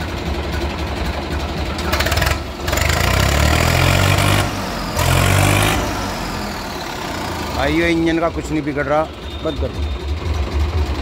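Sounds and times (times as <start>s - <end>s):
tractor diesel engine idling and revving: 0.0s - 11.0s.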